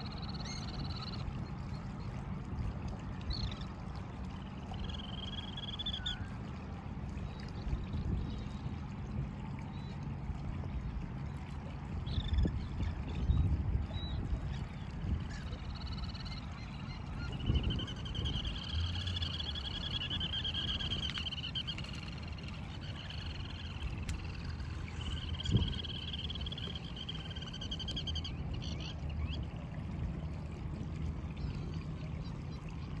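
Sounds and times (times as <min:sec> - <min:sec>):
shore birds trilling: 0:00.0 - 0:33.0.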